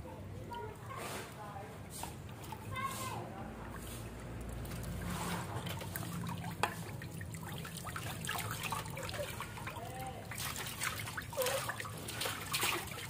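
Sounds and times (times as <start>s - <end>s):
water trickling and splashing: 0.2s - 13.0s.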